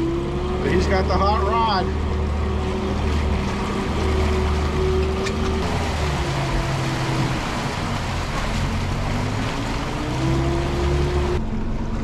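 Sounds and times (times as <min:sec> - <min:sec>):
outboard motor running: 0:00.0 - 0:12.0
water rushing past boat: 0:00.0 - 0:12.0
wind: 0:00.0 - 0:12.0.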